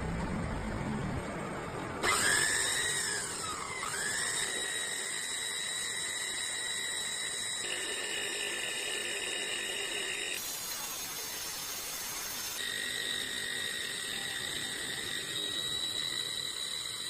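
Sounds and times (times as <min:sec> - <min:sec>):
small motor whining high-pitched: 0:02.0 - 0:17.0.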